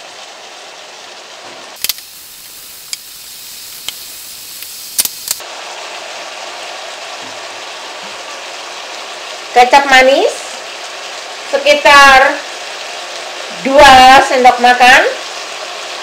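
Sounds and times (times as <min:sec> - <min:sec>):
stir-fry sizzling: 0:00.0 - 0:16.0.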